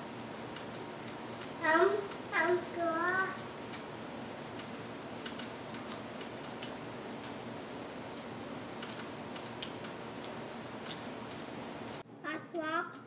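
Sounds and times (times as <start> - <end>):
low room hiss: 0.0 - 13.0.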